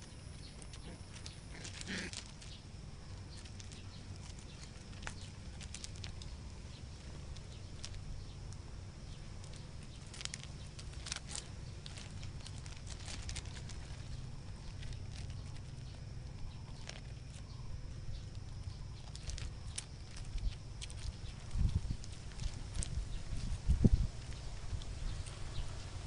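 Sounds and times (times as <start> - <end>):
paws scrabbling over gravel: 0.0 - 26.0.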